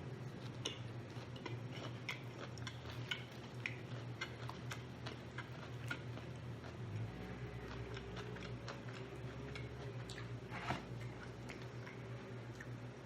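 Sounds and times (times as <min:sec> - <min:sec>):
steady low hum: 0:00.0 - 0:13.0
chewing clicks: 0:00.5 - 0:10.3, 0:11.0 - 0:12.8.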